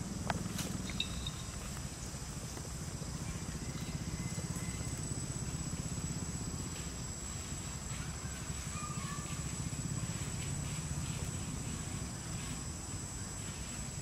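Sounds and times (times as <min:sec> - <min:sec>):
motor running with low rumble: 0:00.0 - 0:14.0.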